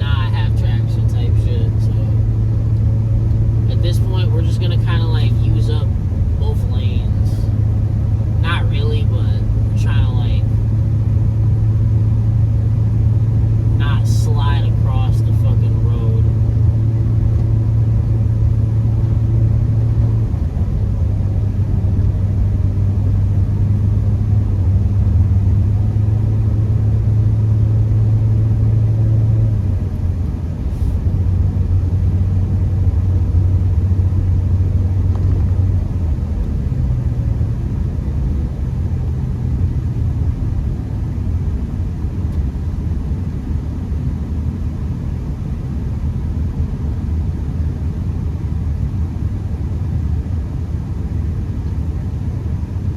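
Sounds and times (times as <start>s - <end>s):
car engine drone: 0.0s - 52.9s
road and tyre rumble: 0.0s - 52.9s.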